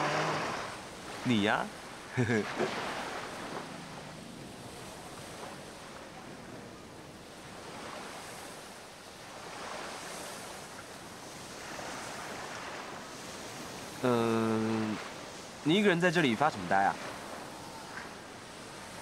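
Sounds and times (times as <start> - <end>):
waves washing onto beach: 0.0 - 19.0.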